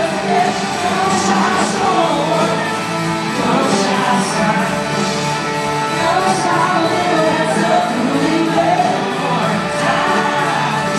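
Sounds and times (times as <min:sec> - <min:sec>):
live country-pop band with singing: 0:00.0 - 0:10.9.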